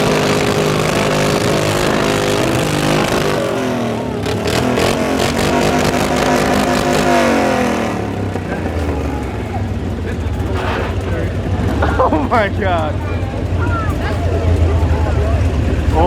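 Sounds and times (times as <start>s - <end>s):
car engine revving hard: 0.0s - 16.0s
engine popping: 0.0s - 16.0s.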